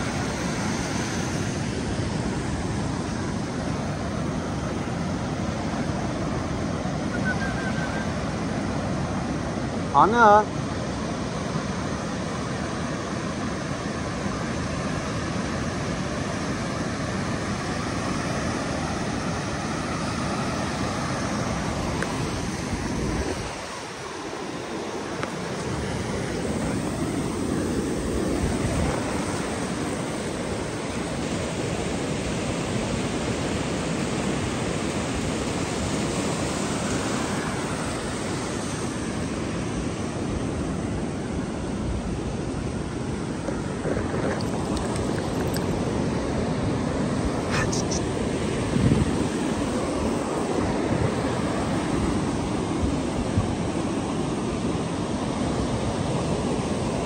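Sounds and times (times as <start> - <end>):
surf washing up a beach: 0.0 - 57.0.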